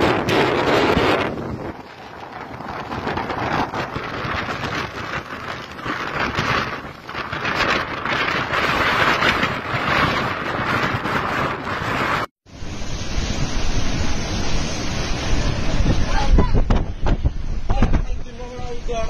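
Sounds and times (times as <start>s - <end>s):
surf breaking on shore: 0.0s - 19.0s
wind buffeting microphone: 0.0s - 19.0s.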